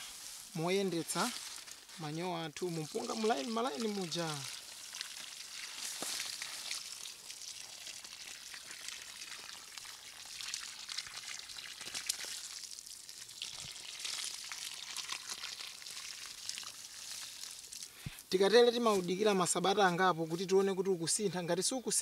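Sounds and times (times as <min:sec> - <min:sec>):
liquid spattering on soil: 0:00.0 - 0:18.2.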